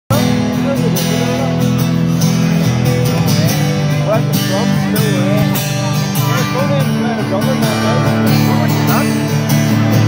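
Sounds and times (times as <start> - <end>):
held backing chords: 0.1 - 10.0
strummed acoustic guitar: 0.1 - 10.0.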